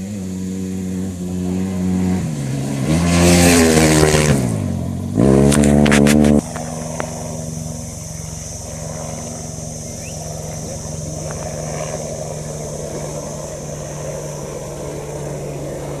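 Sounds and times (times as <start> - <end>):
faint steady engine hum: 0.0 - 16.0
motorcycle engines passing: 0.0 - 16.0.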